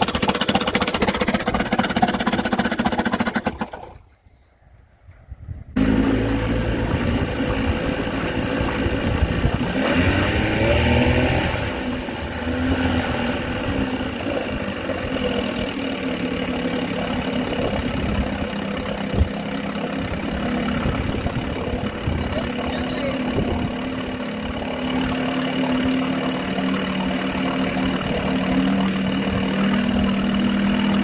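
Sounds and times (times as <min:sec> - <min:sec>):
outboard motor running: 0:00.0 - 0:04.1, 0:05.8 - 0:31.0.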